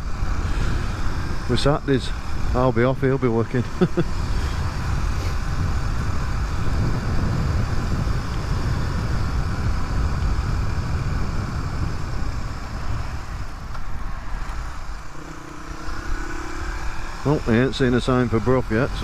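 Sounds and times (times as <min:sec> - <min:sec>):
motorcycle engine running: 0:00.0 - 0:19.0
wind on helmet microphone: 0:00.0 - 0:19.0.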